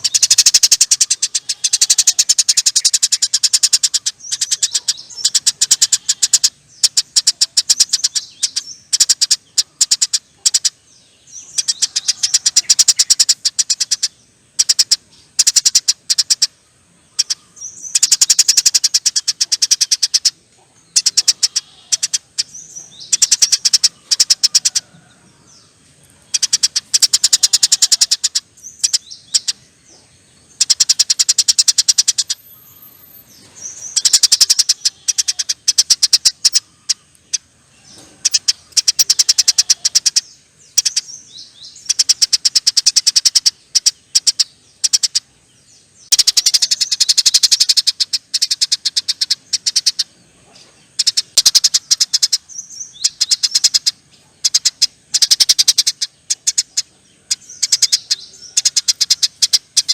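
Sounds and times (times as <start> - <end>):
sparrow chattering: 0.0 - 59.9.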